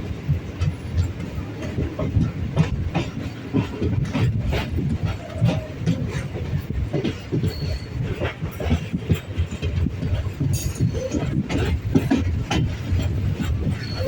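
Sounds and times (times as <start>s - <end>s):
train rumble on board: 0.0s - 14.0s.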